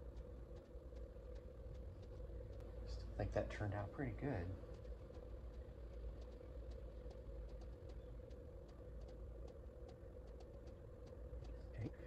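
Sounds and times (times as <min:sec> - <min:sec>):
faint low hum: 0:00.0 - 0:12.0
light irregular ticks: 0:00.0 - 0:12.0.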